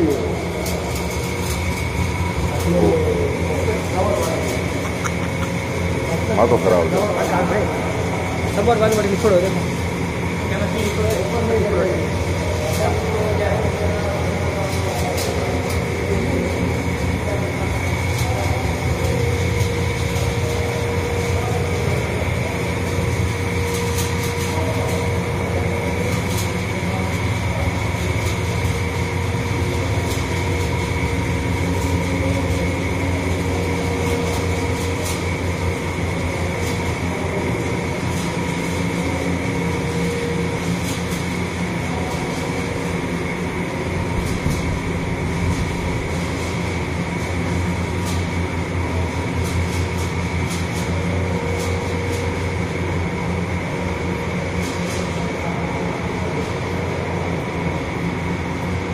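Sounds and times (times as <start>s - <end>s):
mechanical drone with whining tones: 0.0s - 58.9s.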